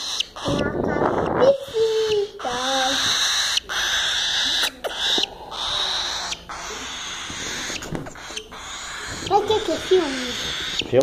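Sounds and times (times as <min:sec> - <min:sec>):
cockatiel hissing: 0:00.0 - 0:10.9.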